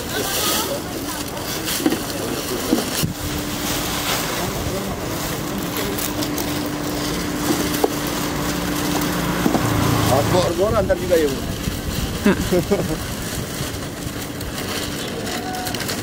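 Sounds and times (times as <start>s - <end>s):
engine hum: 0.0s - 16.0s
outdoor noise: 0.0s - 16.0s.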